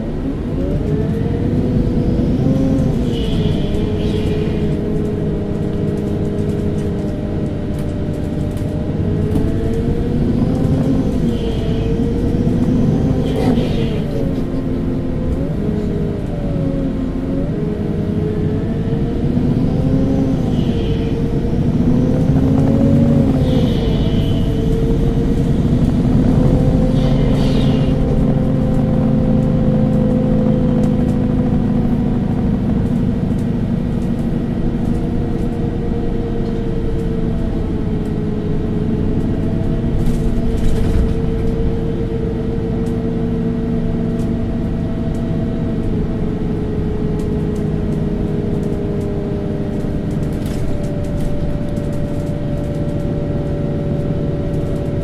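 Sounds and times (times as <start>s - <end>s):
bus engine rumble with whine: 0.0s - 55.0s.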